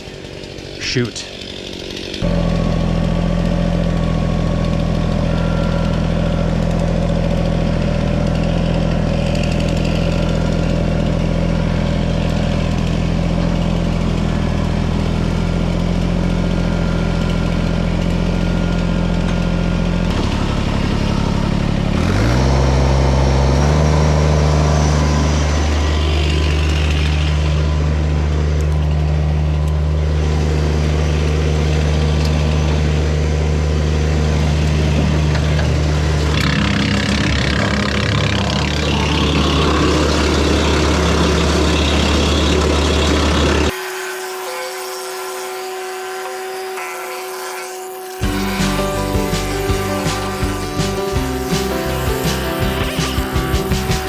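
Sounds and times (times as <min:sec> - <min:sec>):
tractor diesel engine running: 0:00.0 - 0:43.8, 0:48.2 - 0:54.0.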